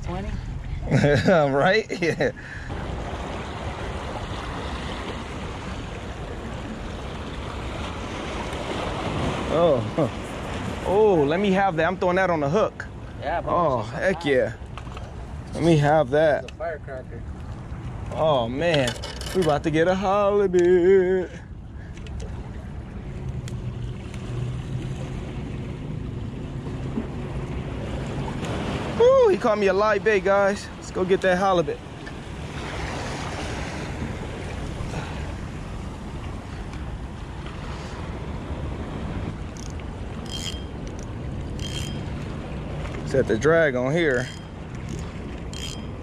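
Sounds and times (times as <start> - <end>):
ocean surf on rocks: 0.0 - 21.7, 22.3 - 46.0.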